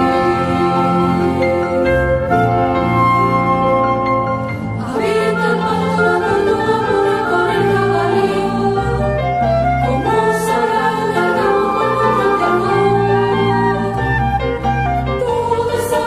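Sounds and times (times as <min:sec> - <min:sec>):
choir singing sustained notes: 0:00.0 - 0:16.0
instrumental accompaniment: 0:00.0 - 0:16.0.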